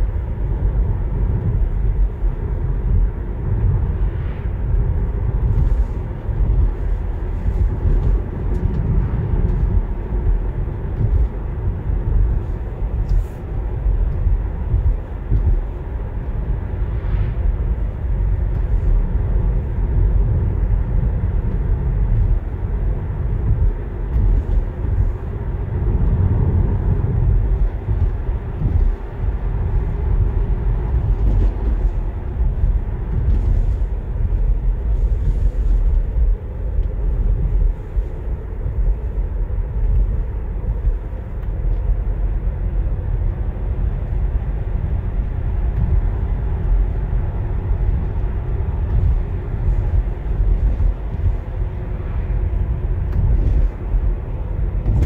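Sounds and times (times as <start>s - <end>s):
deep rumble: 0.0s - 55.0s
wind noise: 0.0s - 55.0s.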